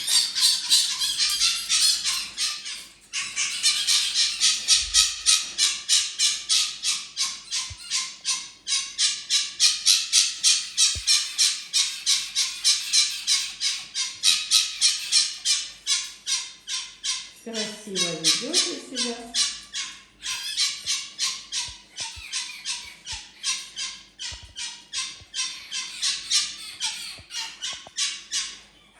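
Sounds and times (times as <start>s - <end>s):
fox yelping: 0.0s - 28.9s.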